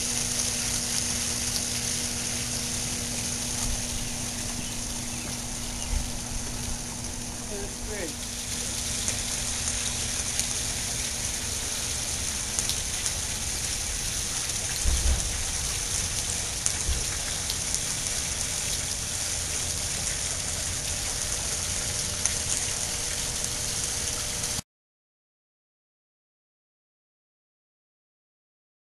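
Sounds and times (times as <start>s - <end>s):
fountain water splashing: 0.0s - 24.6s.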